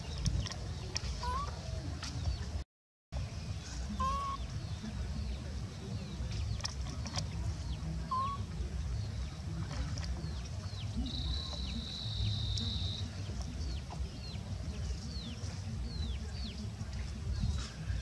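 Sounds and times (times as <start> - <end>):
small birds chirping: 3.4 - 18.0.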